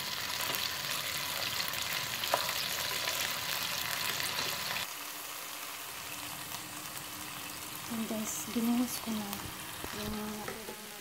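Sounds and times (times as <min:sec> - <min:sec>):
chicken sizzling in sauce: 0:00.0 - 0:11.0.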